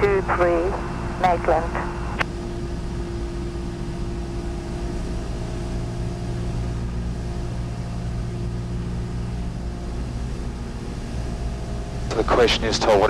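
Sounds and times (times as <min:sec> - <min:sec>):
small plane engine drone: 0:00.0 - 0:13.0.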